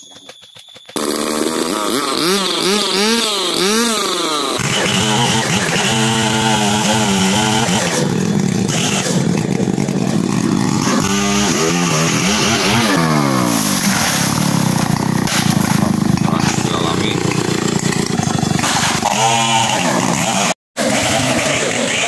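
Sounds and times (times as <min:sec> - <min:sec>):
chainsaw cutting wood: 0:00.2 - 0:22.0.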